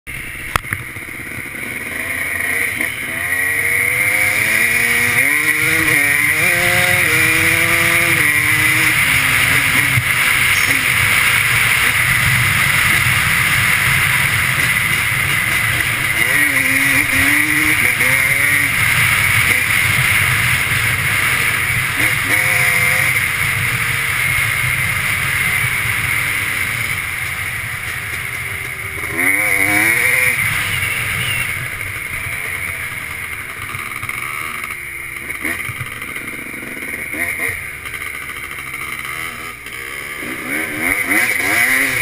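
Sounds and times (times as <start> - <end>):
two-stroke engine revving: 0.1 - 42.0.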